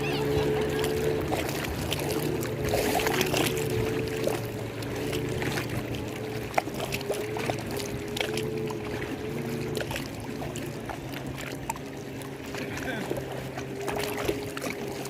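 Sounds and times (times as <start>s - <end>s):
lake water lapping and splashing: 0.0s - 15.0s.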